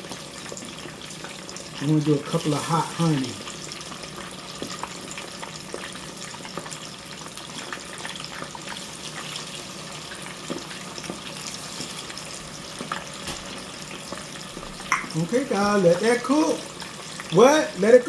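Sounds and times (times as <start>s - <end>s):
oil sizzling with crackles and pops: 0.0s - 18.0s.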